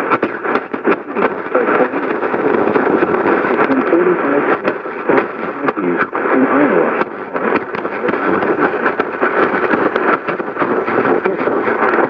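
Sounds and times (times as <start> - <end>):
radio static with crackles: 0.0 - 12.0.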